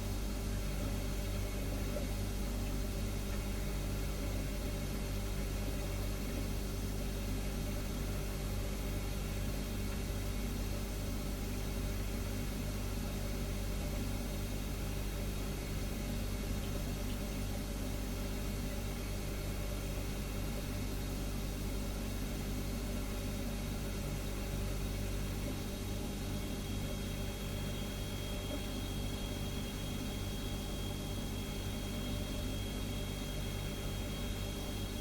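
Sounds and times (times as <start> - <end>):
refrigerator humming: 0.0 - 35.0.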